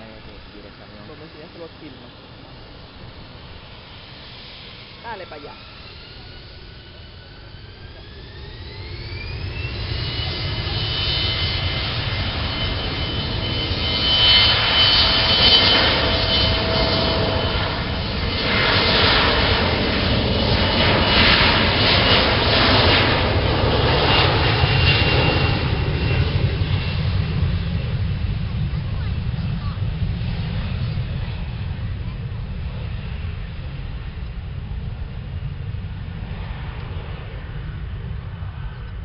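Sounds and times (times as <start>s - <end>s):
jet engines whining and rumbling: 0.0s - 39.0s.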